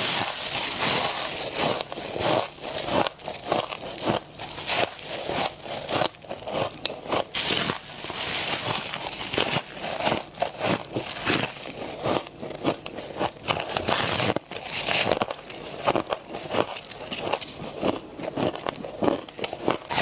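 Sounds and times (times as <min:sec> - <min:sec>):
chewing crunchy frost: 0:00.0 - 0:20.0.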